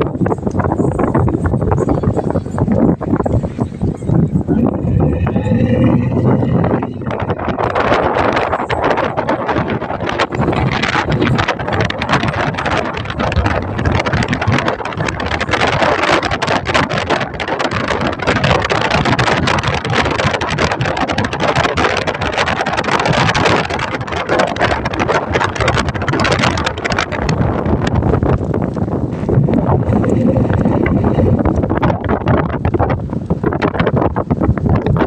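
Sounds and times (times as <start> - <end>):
boat and sea rushing: 0.0 - 35.0
wind buffeting microphone: 0.0 - 35.0.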